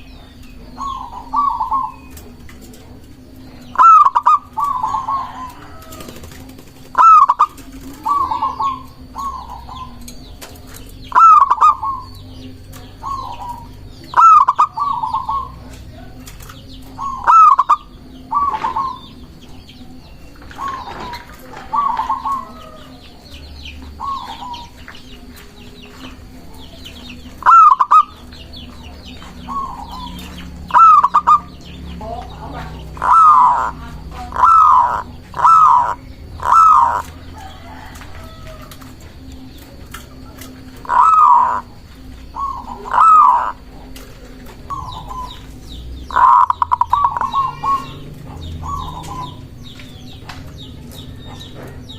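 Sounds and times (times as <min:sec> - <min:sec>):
dove cooing: 0:00.0 - 0:51.9
small birds chirping: 0:00.0 - 0:51.9.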